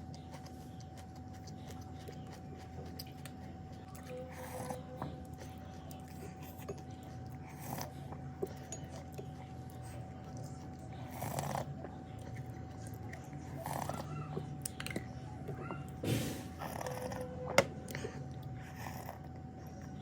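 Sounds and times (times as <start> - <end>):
chewing and slurping: 0.0 - 20.0.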